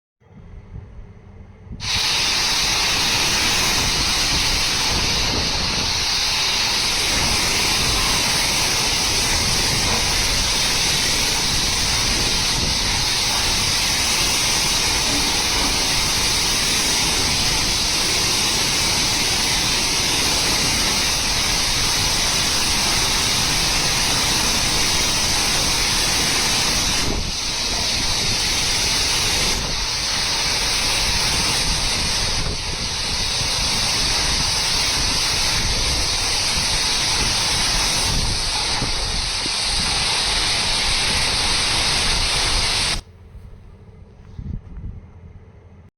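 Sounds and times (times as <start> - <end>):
rushing water hiss: 1.8 - 43.0.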